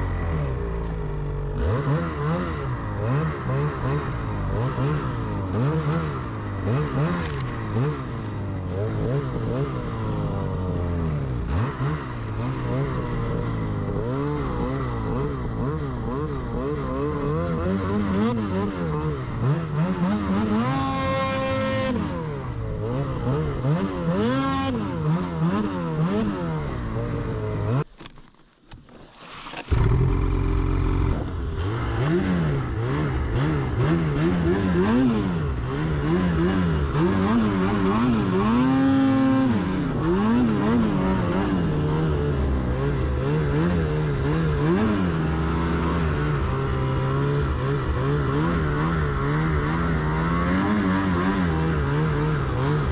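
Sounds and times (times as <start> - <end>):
snowmobile engine revving: 0.0 - 27.8, 29.2 - 52.9.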